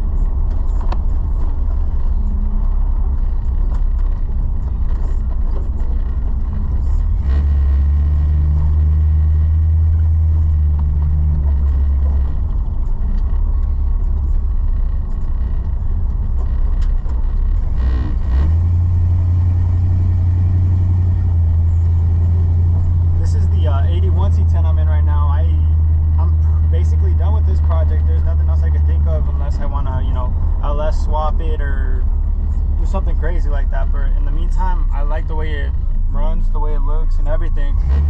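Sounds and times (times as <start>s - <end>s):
truck engine and exhaust drone: 0.0s - 38.0s.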